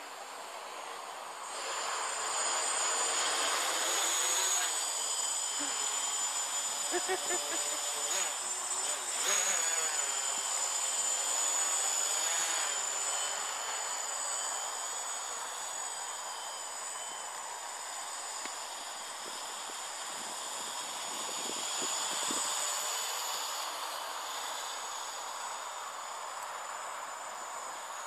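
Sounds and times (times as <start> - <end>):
quadcopter propellers whirring: 0.0 - 28.0.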